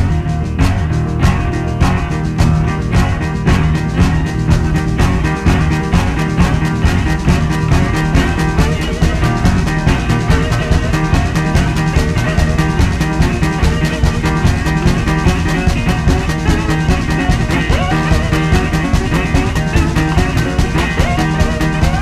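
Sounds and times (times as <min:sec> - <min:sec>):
rock music with guitar and drums: 0:00.0 - 0:22.0.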